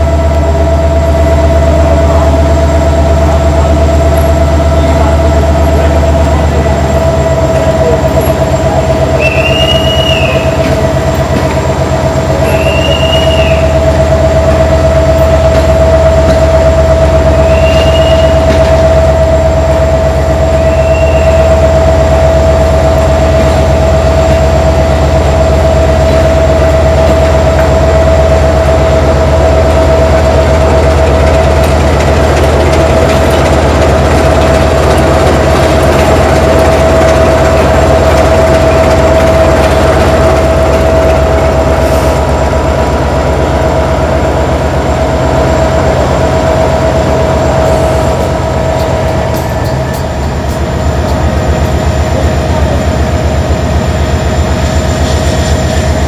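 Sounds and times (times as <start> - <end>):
locomotive engine drone: 0.0 - 56.0.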